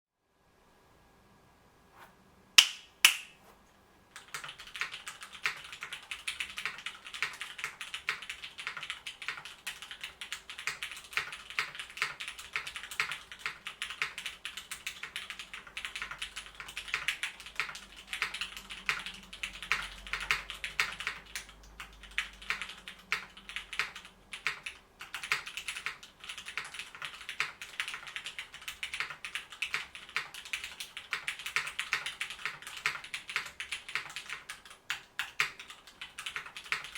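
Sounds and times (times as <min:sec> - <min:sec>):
mechanical keyboard typing: 0:04.1 - 0:36.9.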